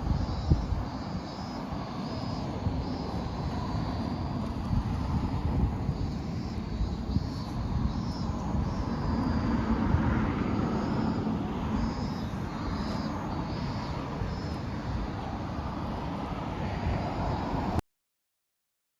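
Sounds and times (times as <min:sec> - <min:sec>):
cicadas calling: 0:00.0 - 0:17.7.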